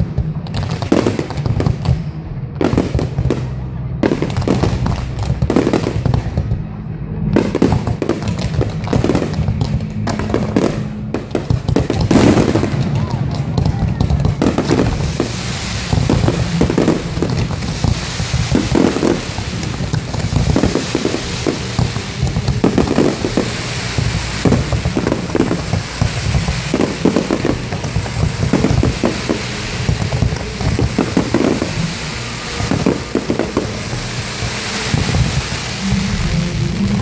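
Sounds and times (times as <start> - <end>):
fireworks banging and crackling: 0.0 - 37.0.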